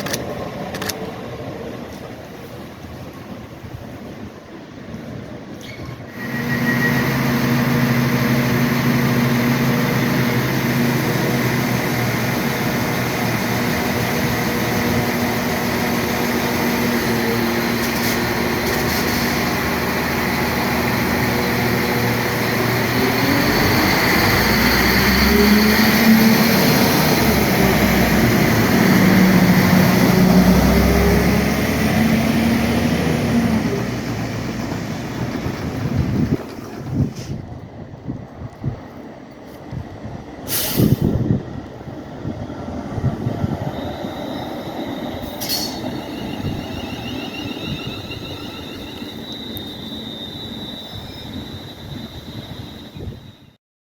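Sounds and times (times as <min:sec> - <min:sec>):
train engine humming: 0:00.0 - 0:53.5.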